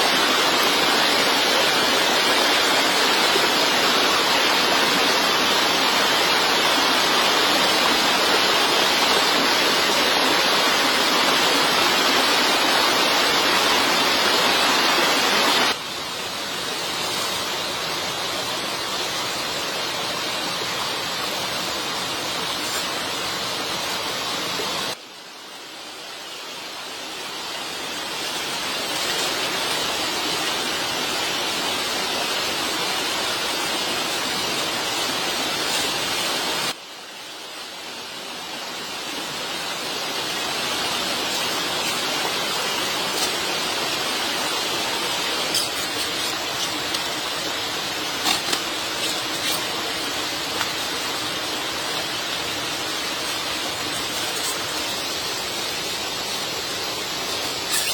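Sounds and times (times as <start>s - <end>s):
water rushing: 0.0s - 57.9s.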